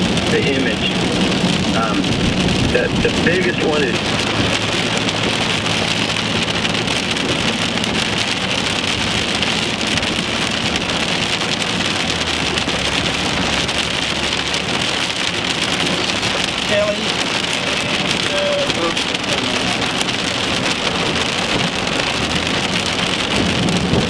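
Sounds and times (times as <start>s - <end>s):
engine and road noise hum: 0.0s - 24.0s
heavy rain on car roof: 0.0s - 24.0s.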